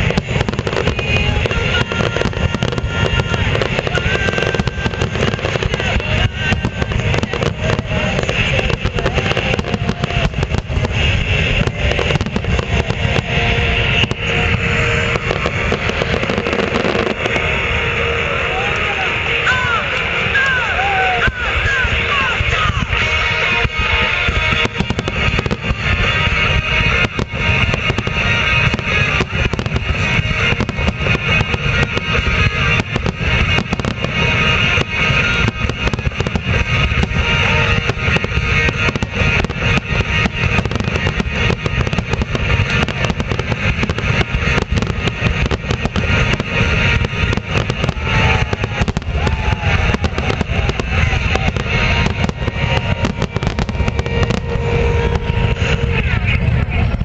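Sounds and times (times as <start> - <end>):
fireworks bursting and crackling: 0.0 - 57.0
music playing: 0.0 - 57.0.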